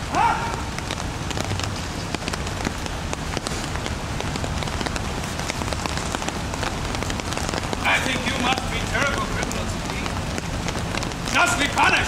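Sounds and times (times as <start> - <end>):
rain tapping on umbrellas: 0.0 - 12.0.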